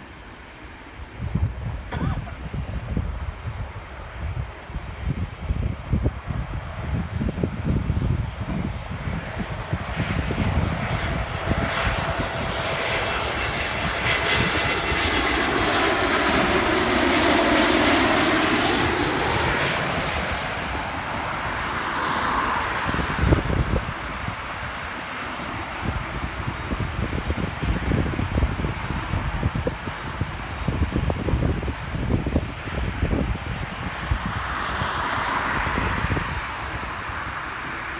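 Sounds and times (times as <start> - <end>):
jet engine whine: 0.0 - 37.9
jet plane passing overhead: 0.0 - 37.9.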